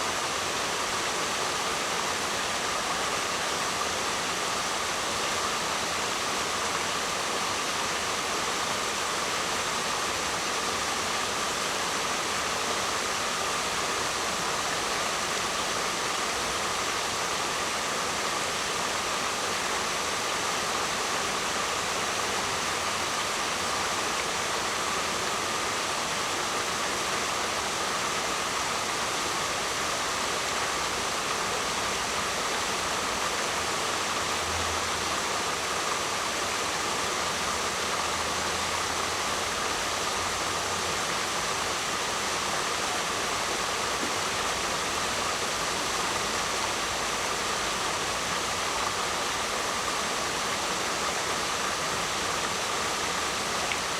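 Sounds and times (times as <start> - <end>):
waterfall roaring: 0.0 - 53.9.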